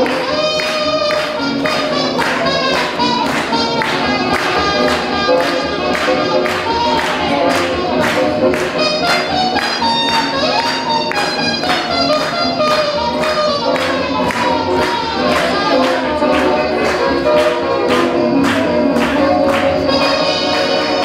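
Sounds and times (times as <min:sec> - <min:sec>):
swing music: 0:00.0 - 0:21.0.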